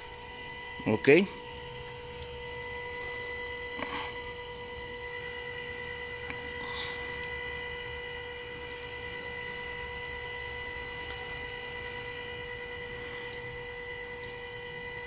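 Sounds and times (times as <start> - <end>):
steady high-pitched hum: 0.0 - 15.0.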